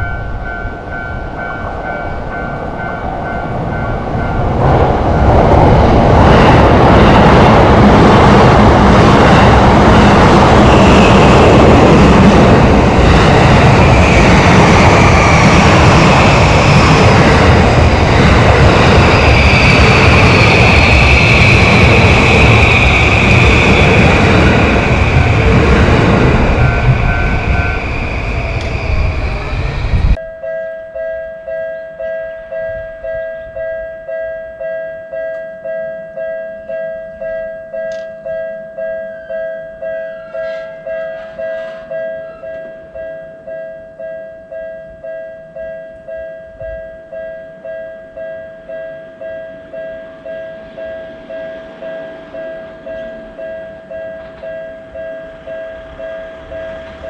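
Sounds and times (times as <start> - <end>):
passing train: 0.0 - 30.3, 31.5 - 57.0
railroad crossing warning bell: 0.0 - 57.0.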